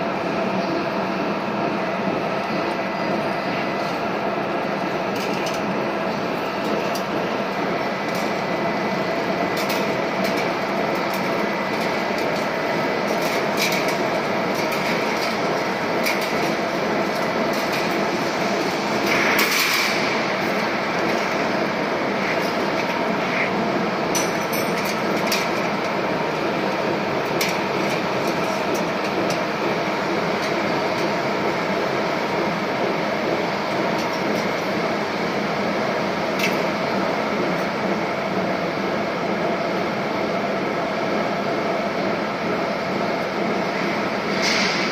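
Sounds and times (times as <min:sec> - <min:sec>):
machinery running: 0:00.1 - 0:44.9.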